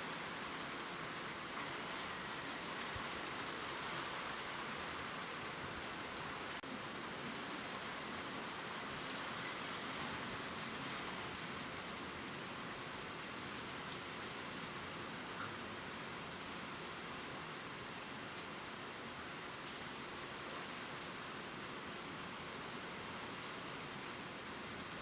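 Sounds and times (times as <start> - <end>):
rain pattering on leaves: 0.0 - 25.0.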